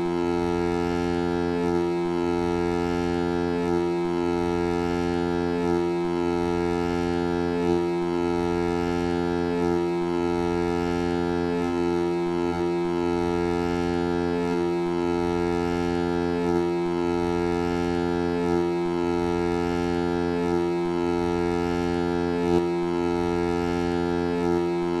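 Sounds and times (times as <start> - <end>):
vocoded foghorn chord: 0.0 - 25.0.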